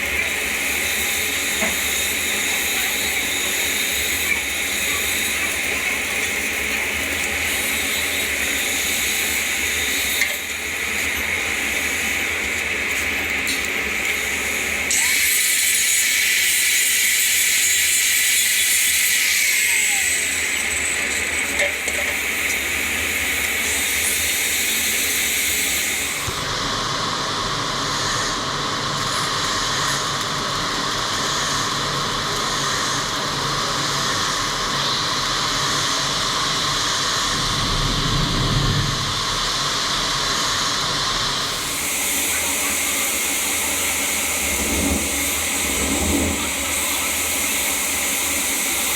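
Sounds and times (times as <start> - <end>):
welding arc hissing and crackling: 0.0 - 48.9.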